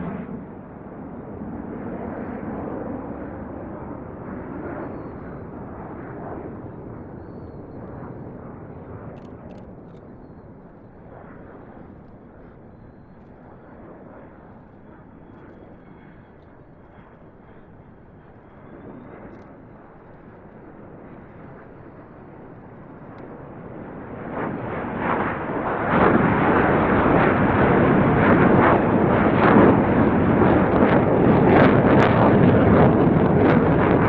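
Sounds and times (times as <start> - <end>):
jet engine rumble: 0.0 - 34.0.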